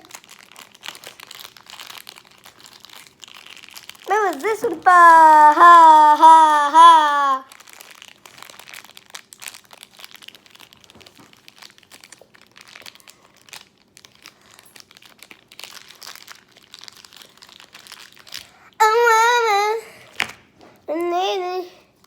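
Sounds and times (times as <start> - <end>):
plastic packaging crinkling: 0.0 - 6.0, 7.4 - 19.4.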